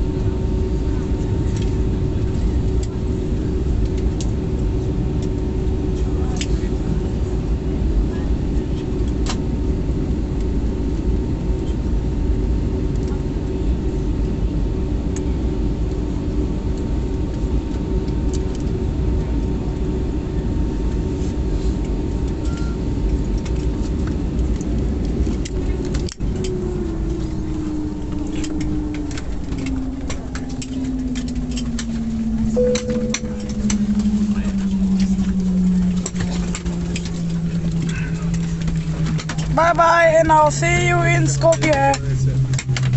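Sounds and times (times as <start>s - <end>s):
airplane cabin rumble: 0.0s - 42.9s
jet engines whine falling: 0.0s - 42.9s.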